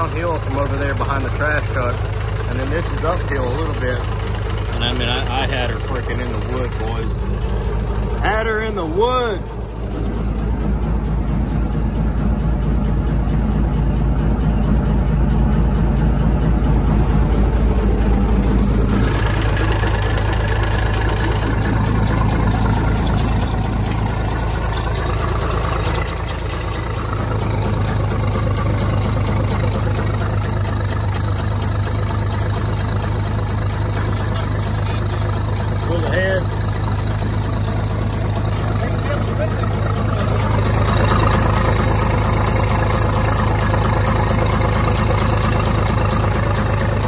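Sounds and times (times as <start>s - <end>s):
diesel engine with rod knock: 0.0s - 47.0s.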